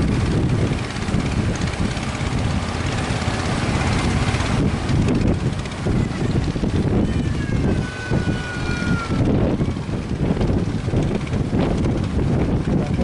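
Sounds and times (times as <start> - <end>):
outboard motor droning: 0.0 - 13.0
wind rumbling on microphone: 0.0 - 13.0.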